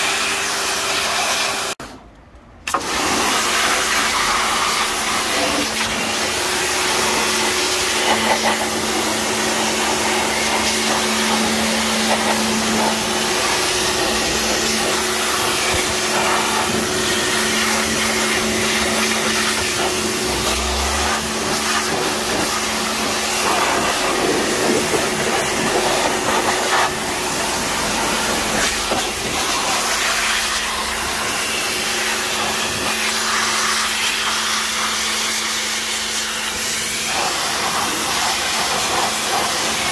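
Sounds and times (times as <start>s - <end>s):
pressure washer motor hum: 2.6s - 39.9s
water jet hissing on metal: 3.0s - 39.9s.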